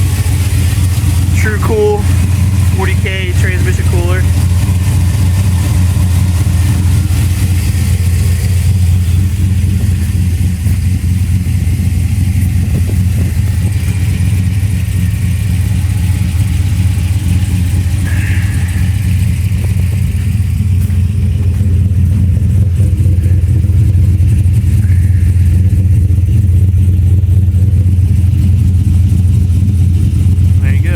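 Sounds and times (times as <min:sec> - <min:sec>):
pickup truck engine idling: 0:00.0 - 0:30.9.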